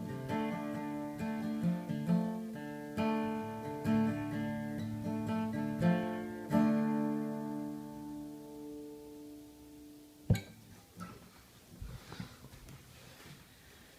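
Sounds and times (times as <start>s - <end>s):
acoustic guitar chords: 0.0s - 11.4s.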